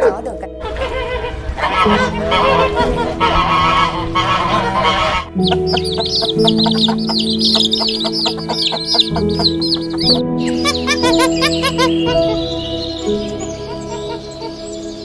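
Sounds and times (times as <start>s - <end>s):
background music: 0.0s - 15.0s
chickens clucking: 0.6s - 14.7s.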